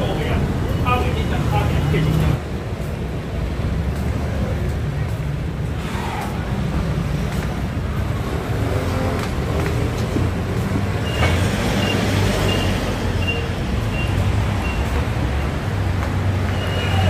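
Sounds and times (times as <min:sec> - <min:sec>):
passing vehicles rumbling: 0:00.0 - 0:17.0.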